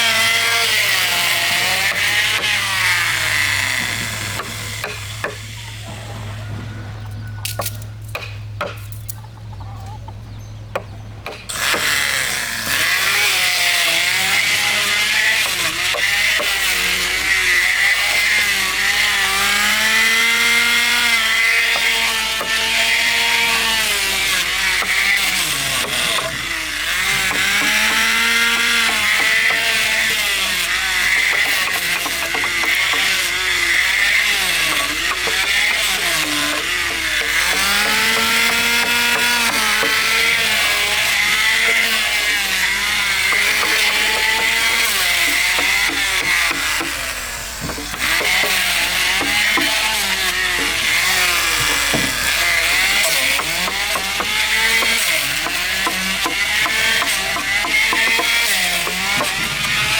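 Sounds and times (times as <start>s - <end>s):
power tool cutting wood: 0.0s - 8.7s, 10.8s - 59.9s.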